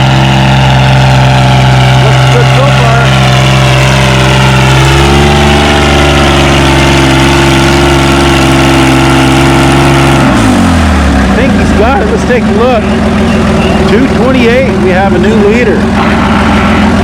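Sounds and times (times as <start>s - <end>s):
tractor engine working hard: 0.0s - 17.0s.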